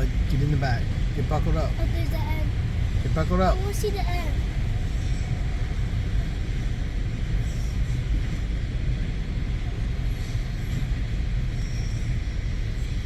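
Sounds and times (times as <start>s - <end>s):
freight cars rolling on rails: 0.0s - 13.0s.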